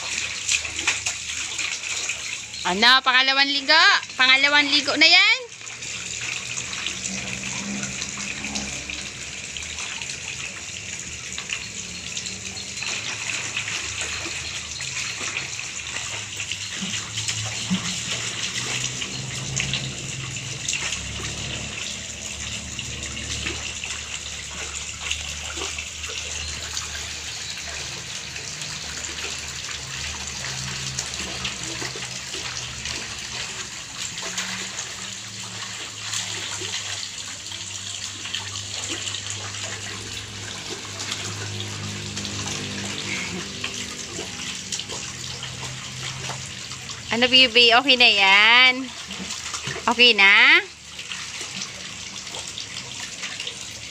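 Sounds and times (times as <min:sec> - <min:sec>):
water splashing in a metal basin: 0:00.0 - 0:53.9.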